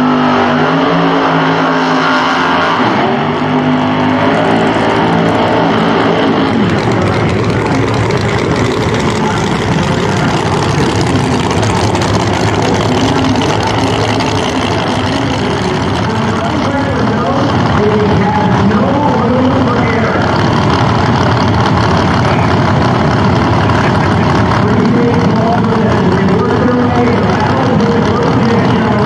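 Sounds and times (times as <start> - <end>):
drag racing engines roaring: 0.0 - 29.0.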